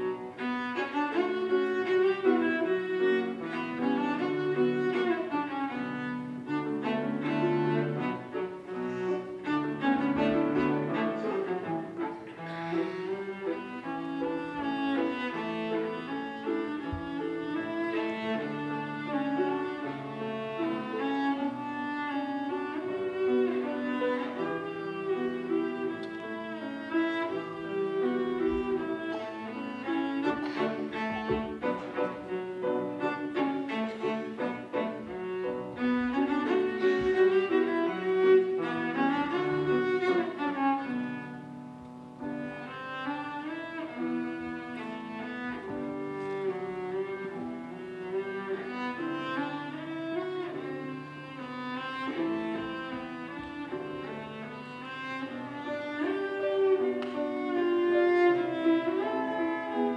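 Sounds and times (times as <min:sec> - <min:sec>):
cello played with bow: 0:00.0 - 0:59.9
piano accompaniment: 0:00.0 - 0:59.9.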